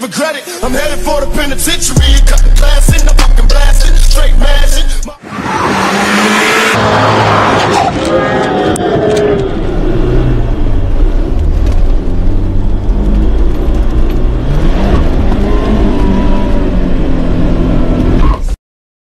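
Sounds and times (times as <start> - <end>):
car engine revving: 0.6 - 18.4.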